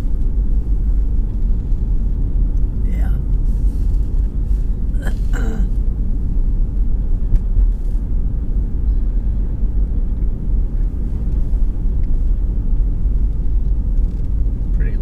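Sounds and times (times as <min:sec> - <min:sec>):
car road rumble from inside: 0:00.0 - 0:15.0.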